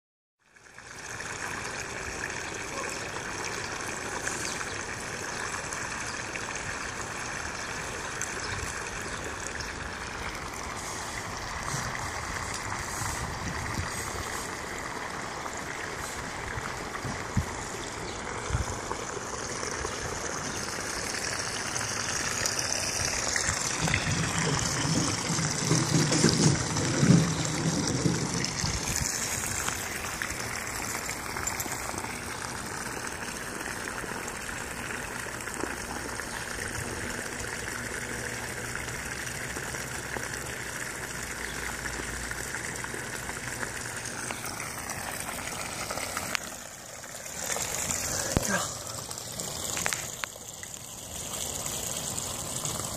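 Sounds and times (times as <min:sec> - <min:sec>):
water trickling over pool rim: 0:00.4 - 0:52.9.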